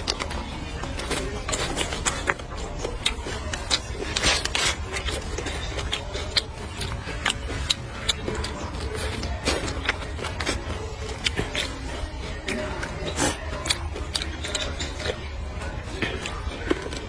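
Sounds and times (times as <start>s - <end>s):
chewing with wet smacks: 0.0s - 17.0s.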